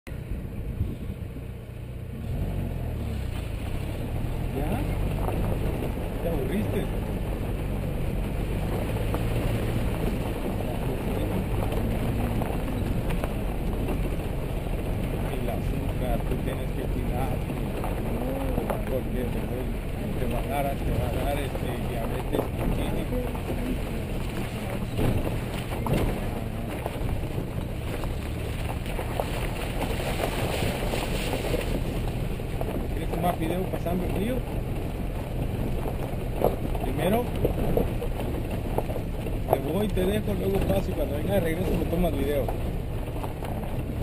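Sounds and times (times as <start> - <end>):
car engine humming: 0.1 - 44.0
gravel clicks: 0.1 - 44.0
tyres on loose gravel: 0.1 - 44.0.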